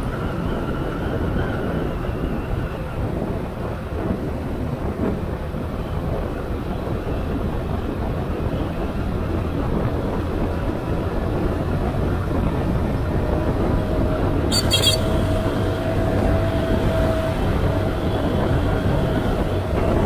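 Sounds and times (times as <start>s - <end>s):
wind rush: 0.0s - 20.0s.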